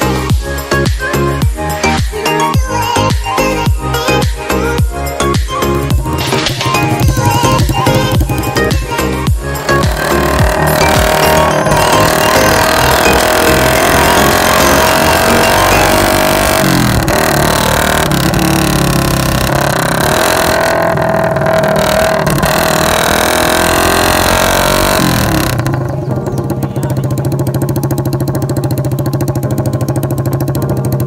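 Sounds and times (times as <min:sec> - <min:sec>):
motorcycle engine revving: 0:05.5 - 0:31.0.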